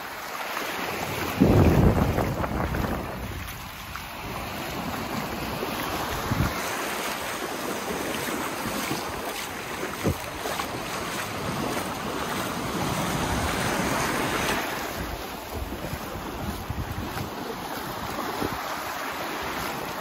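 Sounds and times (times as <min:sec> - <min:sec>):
surf washing over sand: 0:00.0 - 0:20.0
wind buffeting microphone: 0:01.0 - 0:06.7, 0:08.2 - 0:18.9.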